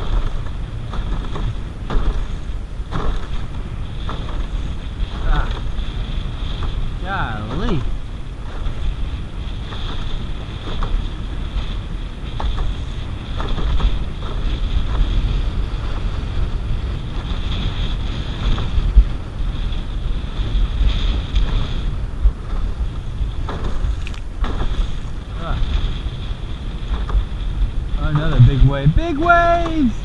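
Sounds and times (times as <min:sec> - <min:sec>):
water splashing around canoe: 0:00.0 - 0:30.0
wind buffeting microphone: 0:00.0 - 0:30.0.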